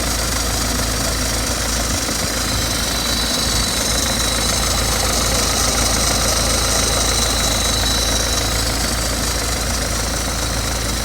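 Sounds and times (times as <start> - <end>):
diesel engine idling: 0.0 - 11.0
continuous metallic rattle: 1.9 - 11.0.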